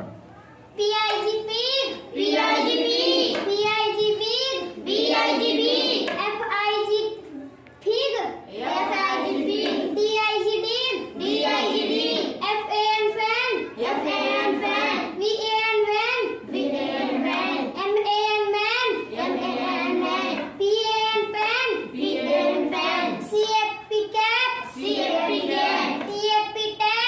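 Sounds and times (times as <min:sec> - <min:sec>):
child chanting: 0:00.3 - 0:27.0.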